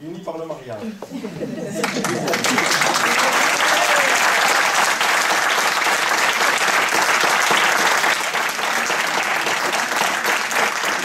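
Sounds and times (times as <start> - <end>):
people applauding: 1.7 - 11.0.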